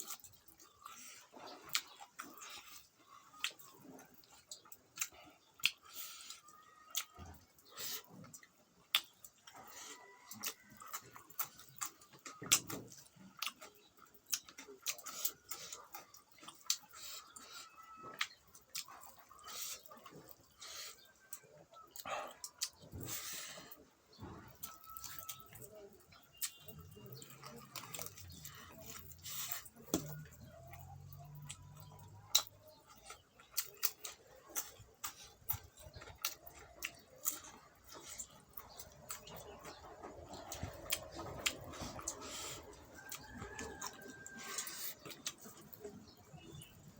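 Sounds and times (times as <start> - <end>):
wet chewing smacks: 0.0 - 46.9.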